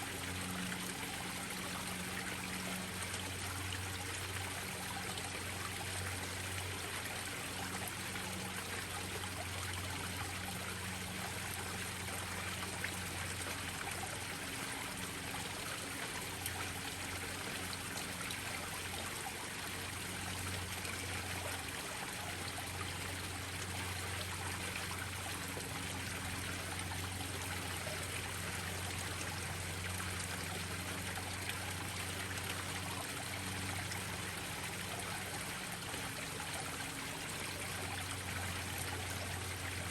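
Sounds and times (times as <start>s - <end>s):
small waterfalls splashing into pond: 0.0s - 39.9s.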